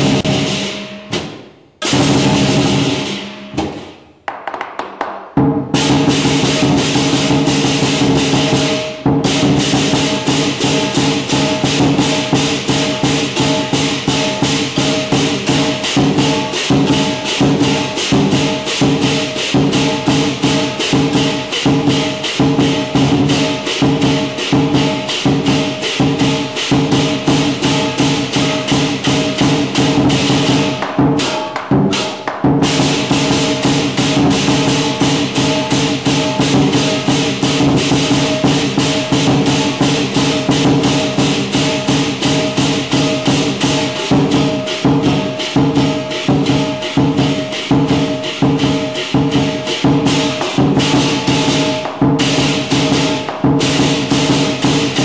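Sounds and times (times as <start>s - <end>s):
large drum beaten fast: 0.0s - 4.1s, 4.9s - 55.0s
cymbals clashing: 0.0s - 4.3s, 5.2s - 55.0s.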